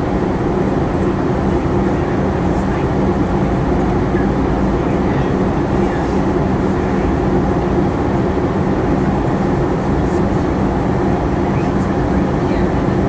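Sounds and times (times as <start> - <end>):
airflow rushing in aircraft cabin: 0.0 - 13.0
low constant hum: 0.0 - 13.0.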